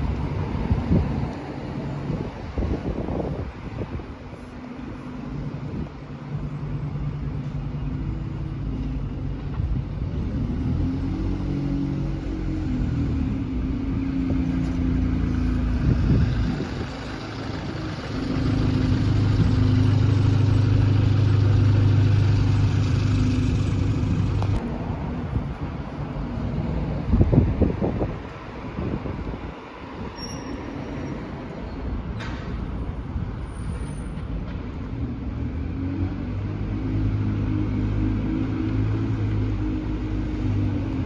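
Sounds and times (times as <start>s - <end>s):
diesel bus engine pulling away: 0.0s - 24.7s, 30.0s - 41.0s.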